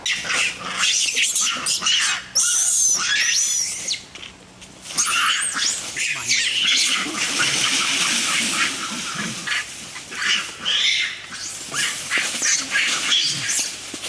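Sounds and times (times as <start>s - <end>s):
monkeys screeching: 0.0s - 4.1s, 4.8s - 13.9s
scuffling through dry leaves: 0.0s - 14.0s.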